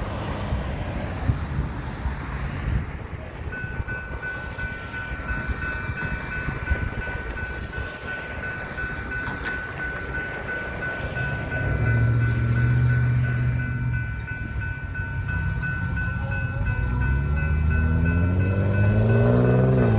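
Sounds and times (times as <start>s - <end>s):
train rumbling past: 0.0s - 19.9s
steady high ringing tone: 3.5s - 19.9s.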